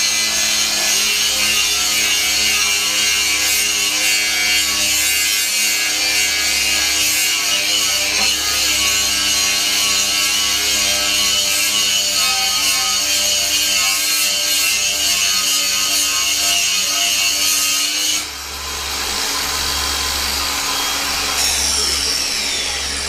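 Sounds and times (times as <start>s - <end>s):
angle grinder grinding metal: 0.0s - 23.0s.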